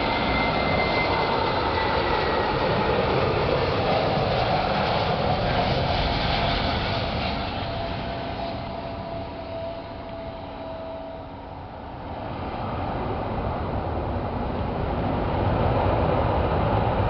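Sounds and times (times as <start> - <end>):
jet engines rushing with whine: 0.0 - 17.0.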